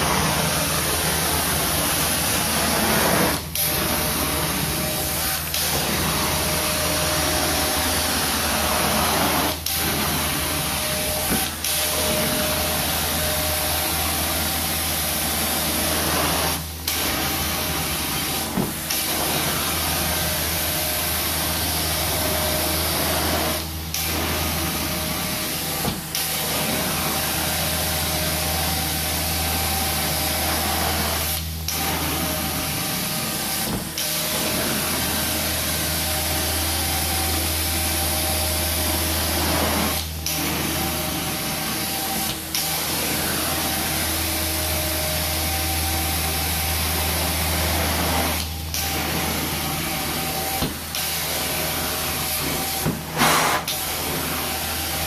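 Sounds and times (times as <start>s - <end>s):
extraction vacuum suction: 0.0s - 55.0s.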